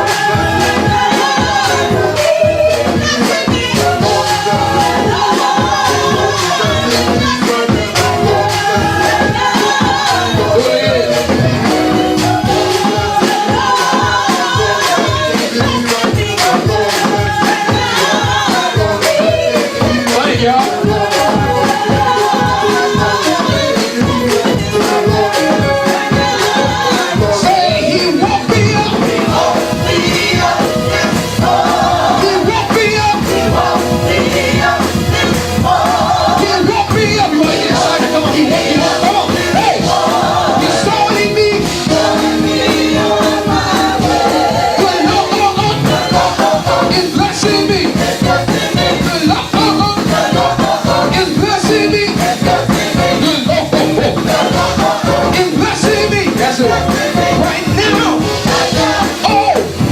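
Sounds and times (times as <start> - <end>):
church band playing: 0.0 - 59.9
drums: 0.0 - 59.9
shaker percussion: 0.0 - 59.9
voices singing: 0.0 - 59.9.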